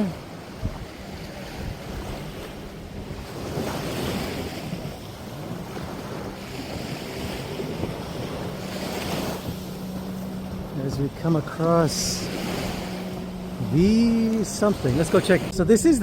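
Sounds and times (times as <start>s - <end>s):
waves washing onto beach: 0.0s - 16.0s
wind buffeting microphone: 0.0s - 16.0s.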